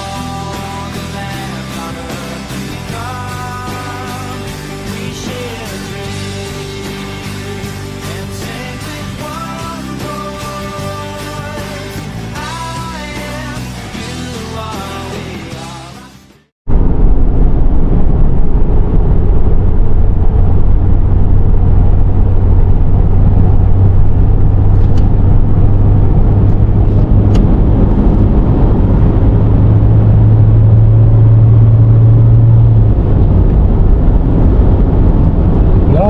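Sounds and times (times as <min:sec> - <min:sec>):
car engine and road noise: 0:00.0 - 0:15.7, 0:16.7 - 0:36.0.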